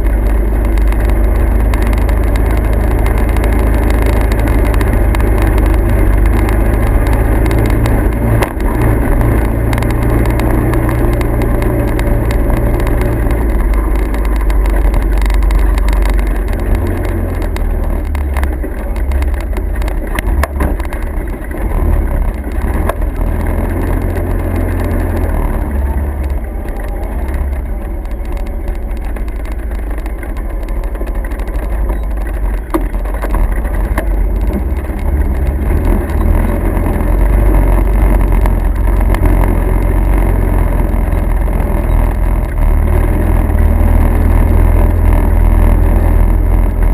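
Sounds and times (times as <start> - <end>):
motor vehicle engine rumble: 0.0 - 46.9
road noise: 0.0 - 46.9.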